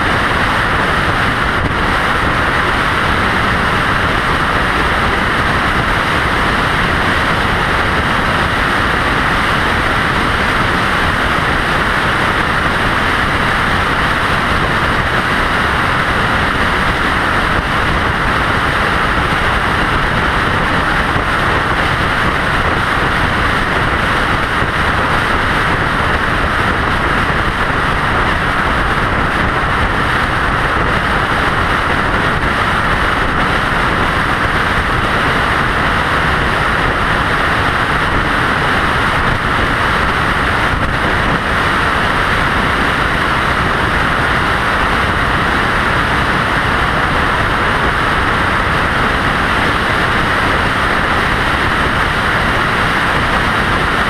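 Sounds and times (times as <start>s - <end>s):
vehicle road and wind noise: 0.0s - 54.0s.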